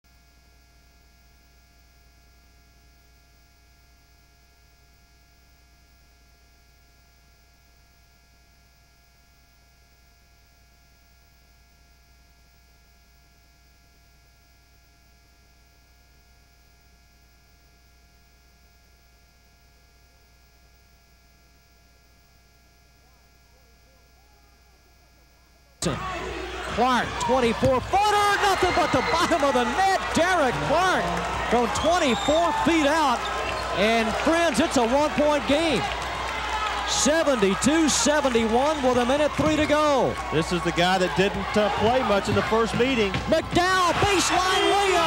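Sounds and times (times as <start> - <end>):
low electrical hum: 0.1 - 45.0.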